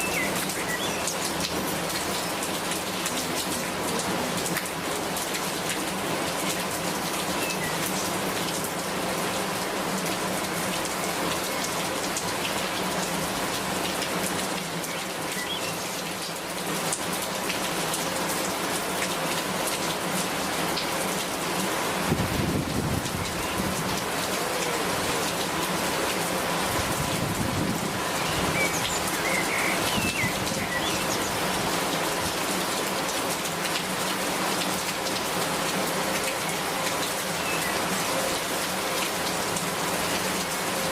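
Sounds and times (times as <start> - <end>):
heavy rain spattering: 0.0 - 40.9.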